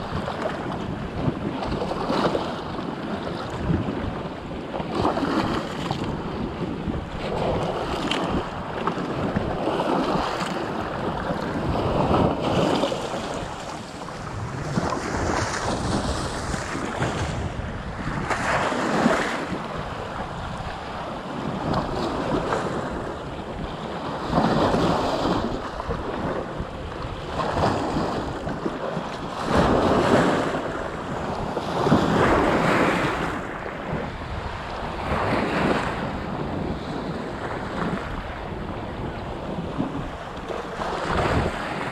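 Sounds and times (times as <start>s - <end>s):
waves splashing over rocks: 0.0s - 41.9s
wind buffeting microphone: 0.0s - 41.9s.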